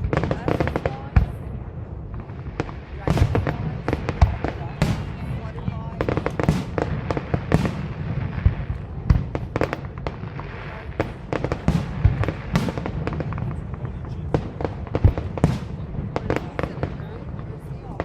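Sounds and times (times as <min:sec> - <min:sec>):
distant fireworks bursts: 0:00.0 - 0:18.0
low rumble of echoing booms: 0:00.0 - 0:18.0.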